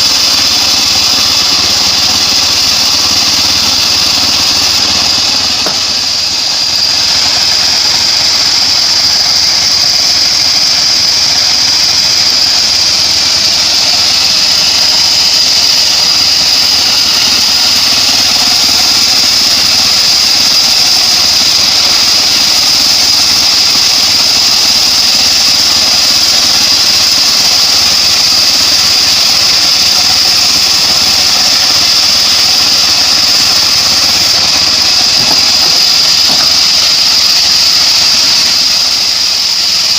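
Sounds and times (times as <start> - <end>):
bandsaw high-pitched whine: 0.0 - 39.9
engine drone: 0.0 - 39.9.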